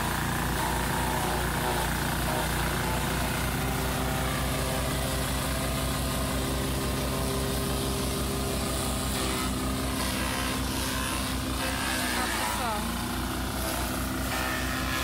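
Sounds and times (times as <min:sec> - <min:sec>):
chopper shredding corn stalks: 0:00.0 - 0:15.0
small engine running: 0:00.0 - 0:15.0.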